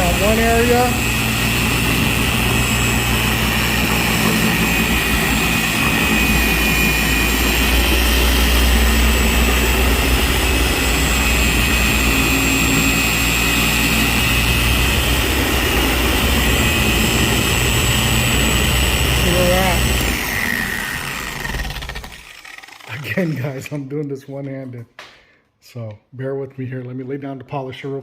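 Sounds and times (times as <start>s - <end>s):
electric polisher motor whine: 0.0s - 23.4s.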